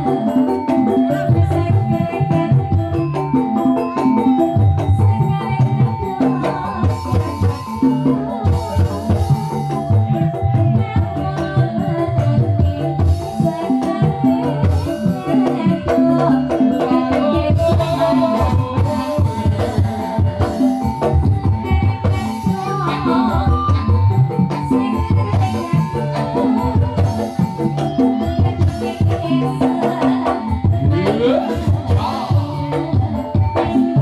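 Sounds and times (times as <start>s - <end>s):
electronic keyboard melody: 0.0s - 34.0s
hand drums: 0.0s - 34.0s.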